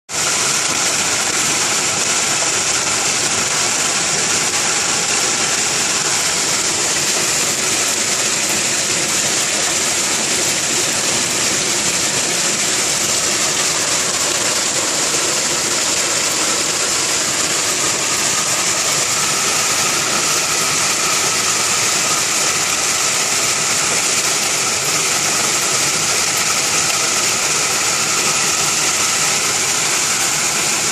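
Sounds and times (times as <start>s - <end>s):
rain falling steadily: 0.2s - 30.9s.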